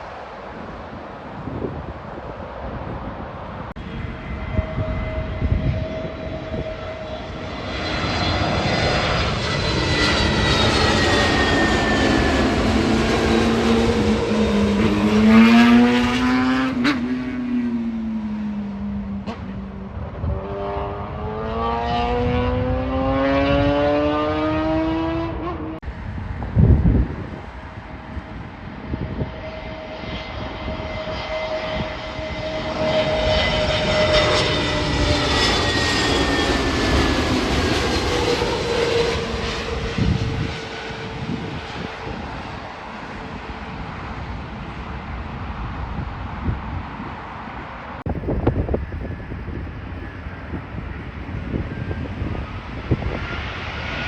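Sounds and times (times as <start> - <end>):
jet airliner passing overhead: 0.0 - 54.0.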